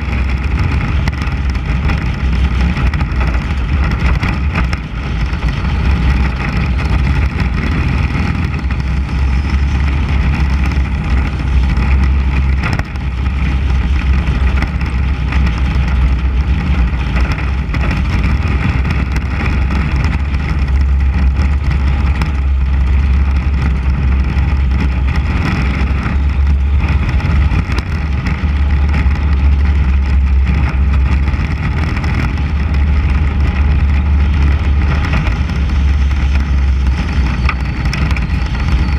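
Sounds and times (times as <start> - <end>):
race car engine drone: 0.0 - 38.9
road and wind noise: 0.0 - 38.9.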